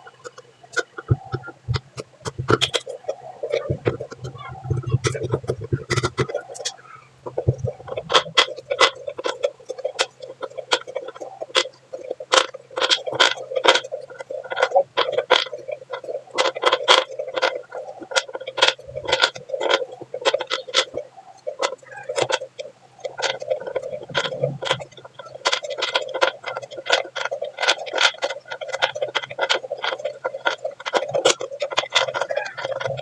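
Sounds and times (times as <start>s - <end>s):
sharp uneven clicks and taps: 0.0s - 33.0s.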